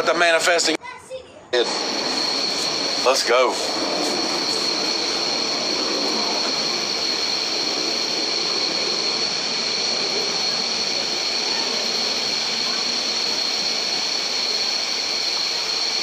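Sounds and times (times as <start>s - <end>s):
rushing background noise: 1.5s - 16.0s
high-pitched insect drone: 1.6s - 16.0s.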